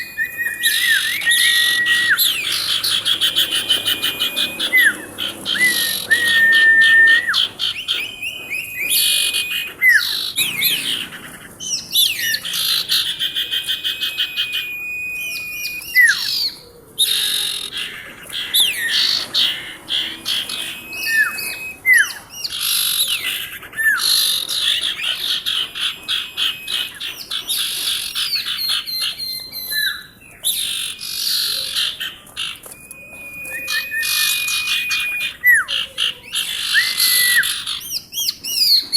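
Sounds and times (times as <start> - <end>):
bird chattering trills and whistles: 0.0 - 38.9.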